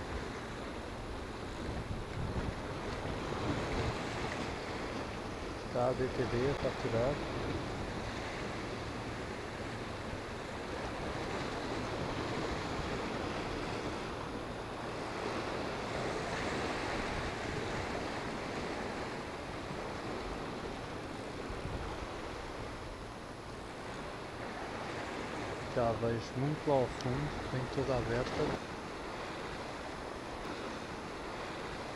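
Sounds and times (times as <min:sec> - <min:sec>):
sea surf washing against rocks: 0:00.0 - 0:31.9.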